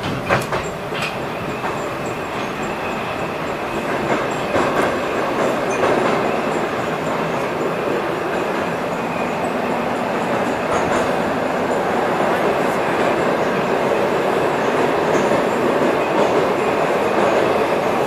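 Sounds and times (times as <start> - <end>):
metro train wheels rumbling: 0.0 - 18.0.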